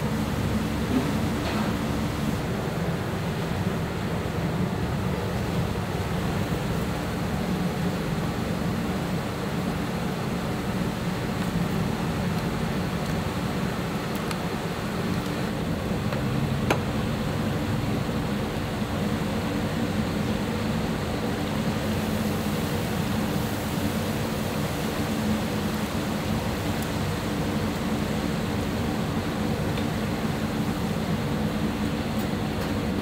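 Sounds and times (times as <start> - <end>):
low background hum and hiss: 0.0 - 33.0.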